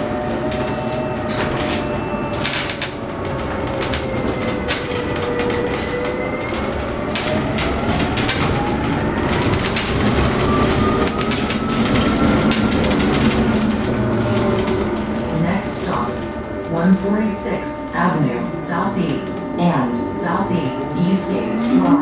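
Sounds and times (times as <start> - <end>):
electric bus drive whining: 0.0 - 22.0.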